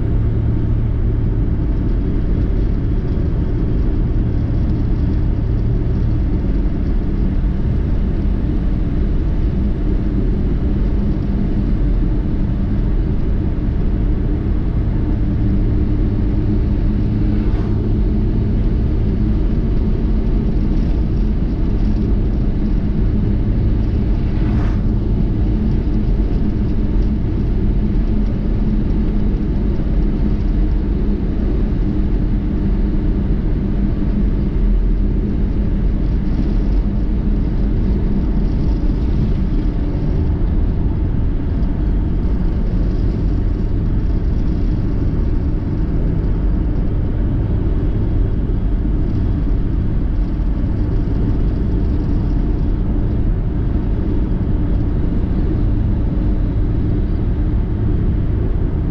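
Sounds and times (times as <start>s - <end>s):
car driving rumble: 0.0s - 58.9s.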